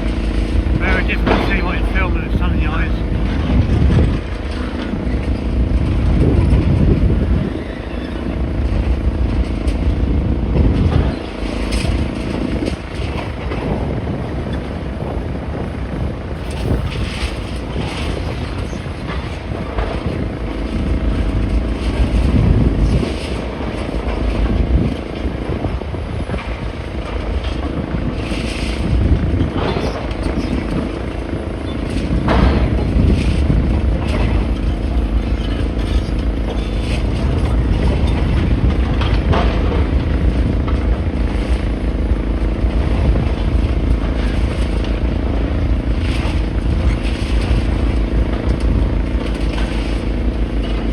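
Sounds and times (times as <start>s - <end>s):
heavy machine engine rumbling: 0.0s - 50.9s.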